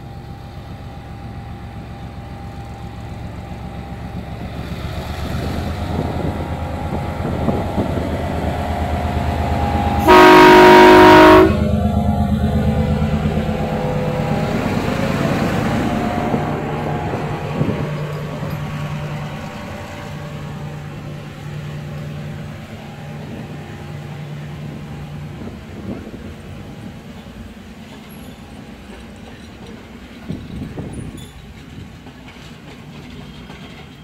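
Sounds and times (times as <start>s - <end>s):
diesel locomotive engine drone: 0.0s - 34.0s.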